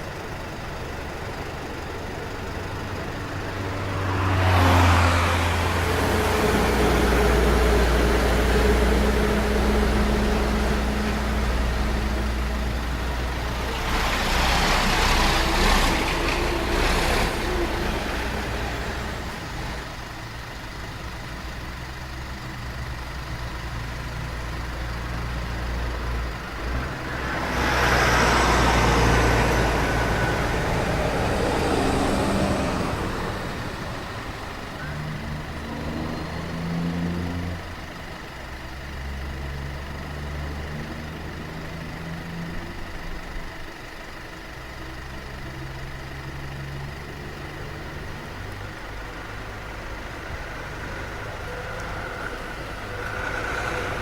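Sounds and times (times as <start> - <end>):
low engine idle: 0.0 - 4.0, 5.4 - 27.3, 32.8 - 36.5, 37.5 - 53.1
vehicles passing: 0.0 - 54.0.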